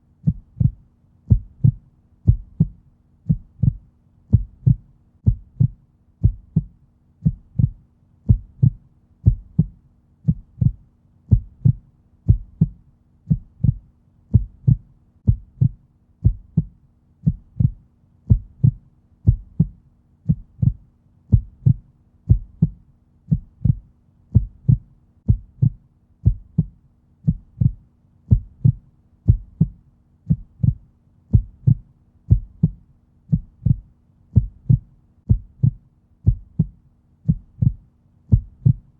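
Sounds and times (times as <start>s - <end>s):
heartbeat thumps: 0.2s - 38.9s.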